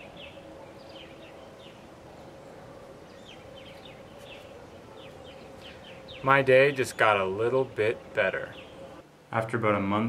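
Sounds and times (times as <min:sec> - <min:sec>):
small birds chirping: 0:00.0 - 0:09.0
faint steady hum: 0:00.0 - 0:10.0.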